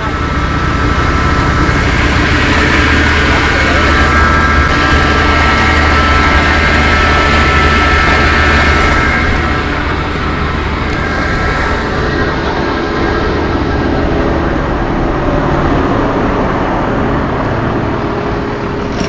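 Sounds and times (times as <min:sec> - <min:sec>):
engine running steadily: 0:00.0 - 0:19.0
loud rushing noise: 0:00.0 - 0:19.0.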